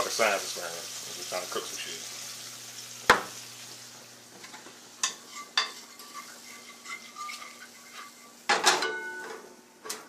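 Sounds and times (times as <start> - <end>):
shrimp sizzling in frying pan: 0.0 - 8.7.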